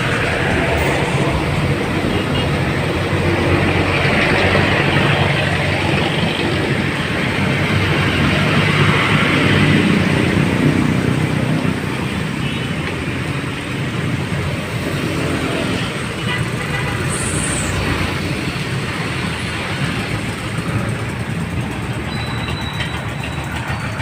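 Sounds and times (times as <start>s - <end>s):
vehicle rumble: 0.0s - 24.0s.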